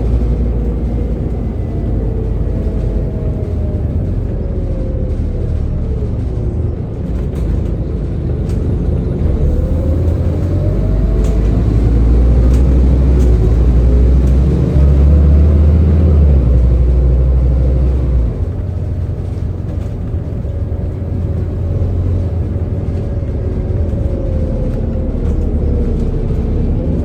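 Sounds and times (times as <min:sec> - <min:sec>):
bus engine accelerating: 0:00.0 - 0:27.0.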